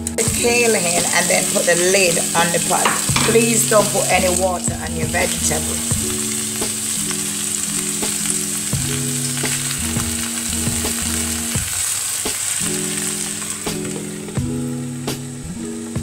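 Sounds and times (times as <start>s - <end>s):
soft background music: 0.0s - 16.0s
vegetables sizzling in a frying pan: 0.2s - 16.0s.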